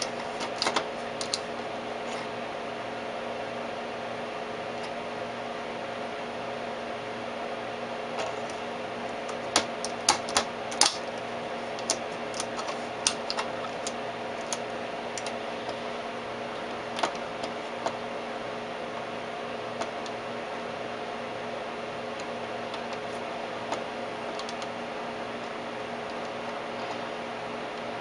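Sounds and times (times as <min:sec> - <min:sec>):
oscilloscope fan and mains hum: 0:00.0 - 0:28.0.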